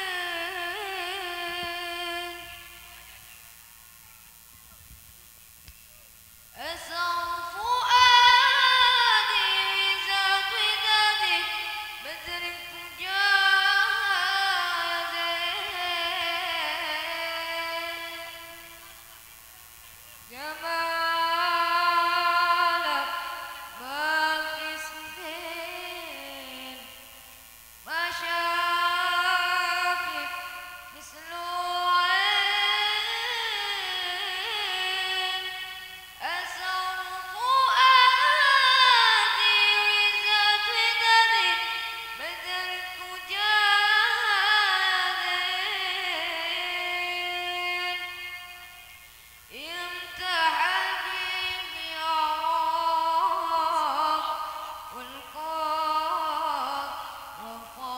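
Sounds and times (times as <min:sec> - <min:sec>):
person singing long notes: 0:00.0 - 0:03.3, 0:06.6 - 0:19.0, 0:20.3 - 0:57.9.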